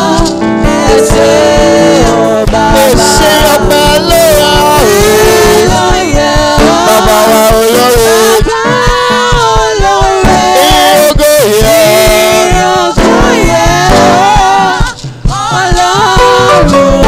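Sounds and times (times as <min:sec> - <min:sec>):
gospel singing: 0:00.0 - 0:17.0
steady drum beat: 0:00.0 - 0:17.0.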